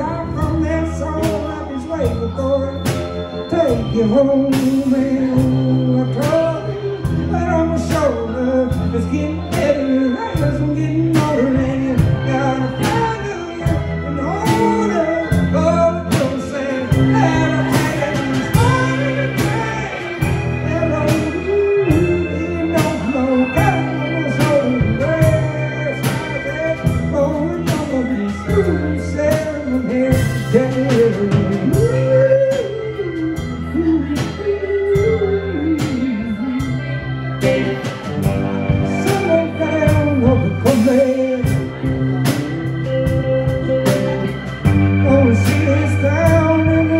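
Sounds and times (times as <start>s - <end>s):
electric guitar melody: 0.0s - 46.9s
live blues soul band: 0.0s - 46.9s
steady drum beat: 0.0s - 46.9s.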